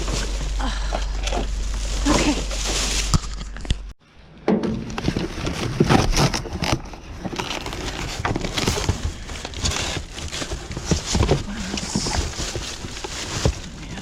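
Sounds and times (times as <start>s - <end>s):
bags rustling and crinkling: 0.0s - 4.0s, 4.8s - 14.0s.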